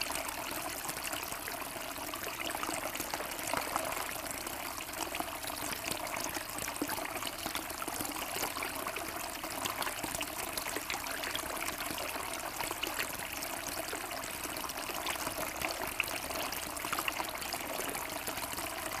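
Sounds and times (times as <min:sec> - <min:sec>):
fountain water trickling and splashing: 0:00.0 - 0:19.0.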